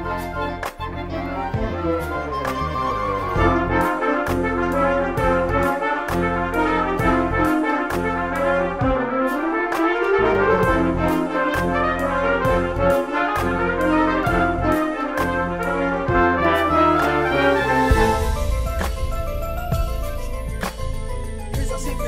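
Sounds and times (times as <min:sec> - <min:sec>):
trumpets and trombones: 0:00.0 - 0:20.6
marching band playing: 0:00.0 - 0:20.9
sharp percussion hits: 0:03.4 - 0:22.0.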